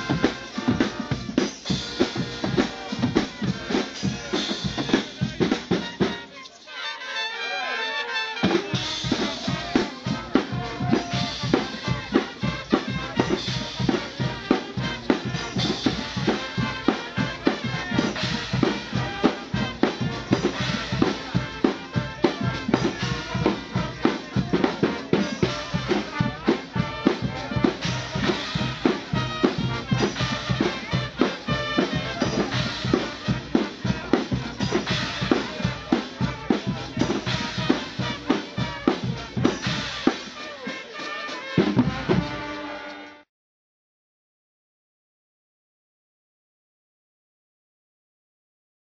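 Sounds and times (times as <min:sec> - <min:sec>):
drums beating: 0:00.0 - 0:06.4, 0:08.4 - 0:42.9
horns playing: 0:00.0 - 0:43.3.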